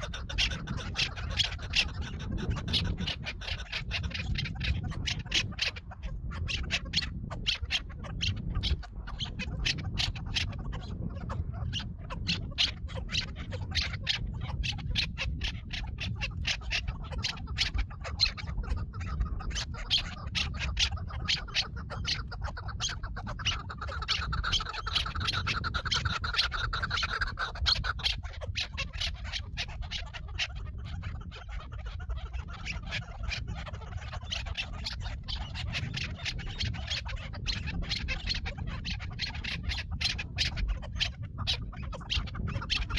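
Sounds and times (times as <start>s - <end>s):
bird calling: 0.0s - 42.9s.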